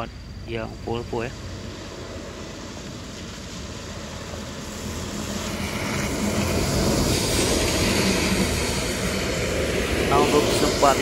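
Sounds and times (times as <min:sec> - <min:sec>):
bus engine approaching: 0:00.0 - 0:11.0
tyre hiss on wet road: 0:01.1 - 0:11.0.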